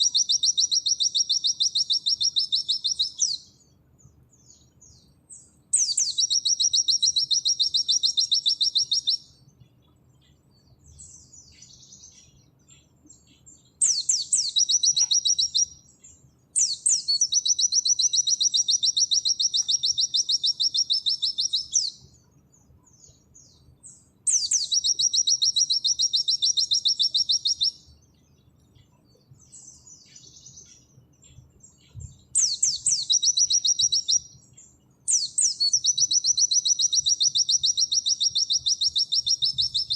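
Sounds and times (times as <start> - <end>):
bird singing rapid song: 0.0 - 39.9
soft bird twittering: 0.0 - 39.9.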